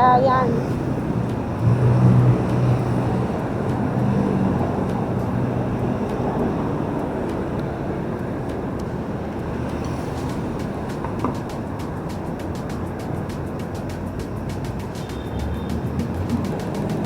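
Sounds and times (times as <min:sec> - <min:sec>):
heavy road traffic passing: 0:00.0 - 0:17.0
vehicle engine hum: 0:00.0 - 0:17.0.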